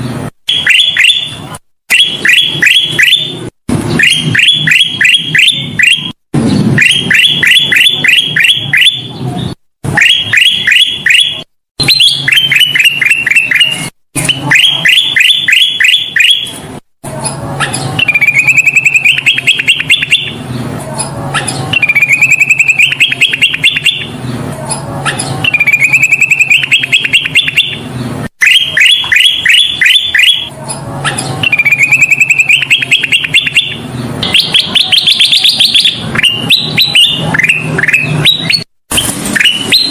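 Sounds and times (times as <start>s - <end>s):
bird trilling: 0.5s - 6.2s, 6.8s - 9.2s, 10.0s - 16.6s, 17.6s - 24.2s, 25.0s - 38.7s
bird singing rapid chirps: 0.5s - 16.6s, 17.2s - 39.9s.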